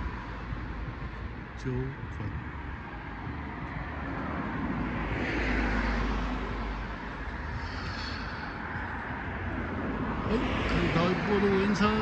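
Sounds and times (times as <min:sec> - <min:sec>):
car driving with tyre hiss: 0:00.0 - 0:12.0.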